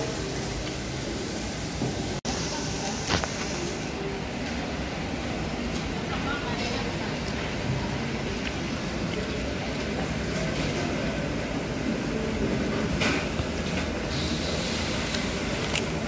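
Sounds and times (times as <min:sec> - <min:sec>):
market hall background din: 0:00.0 - 0:16.0.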